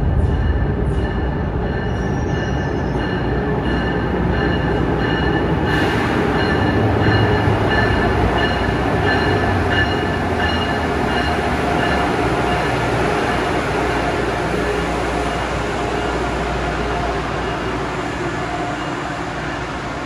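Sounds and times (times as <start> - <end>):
high train squeal: 0.0 - 20.0
train rumbling past: 0.0 - 20.0.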